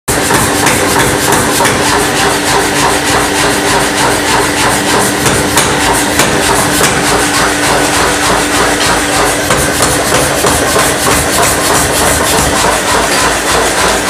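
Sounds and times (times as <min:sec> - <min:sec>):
power hammer striking hot steel: 0:00.1 - 0:14.0.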